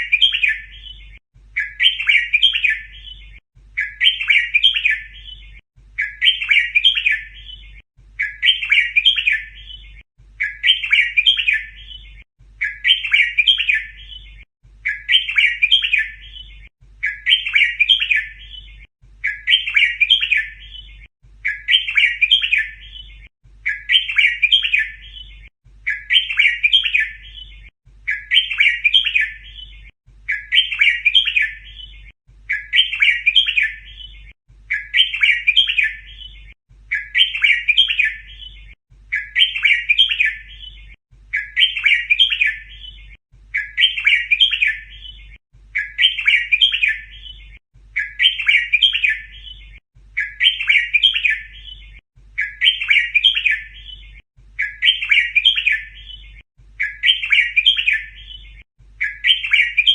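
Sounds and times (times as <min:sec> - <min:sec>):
bird chirping song: 0:00.0 - 0:59.9.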